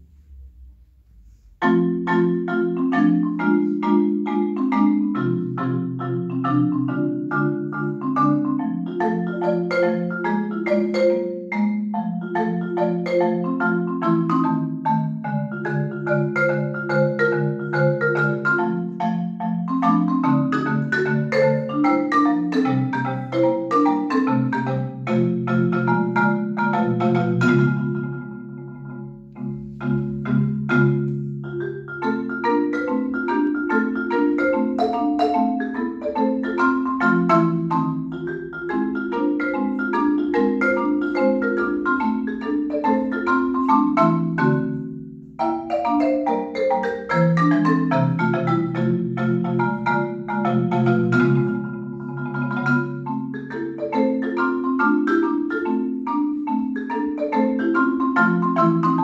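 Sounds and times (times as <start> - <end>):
marimba played with mallets: 0.0 - 59.0.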